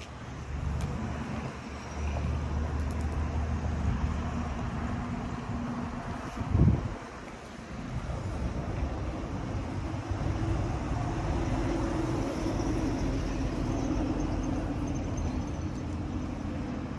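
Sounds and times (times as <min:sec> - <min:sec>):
outdoor background noise: 0:00.0 - 0:16.9
vehicle engine rumble: 0:00.0 - 0:16.9.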